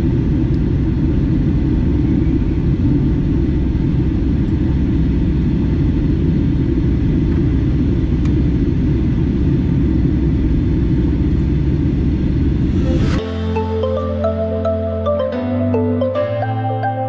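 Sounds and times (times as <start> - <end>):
airplane cabin engine rumble: 0.0 - 15.2.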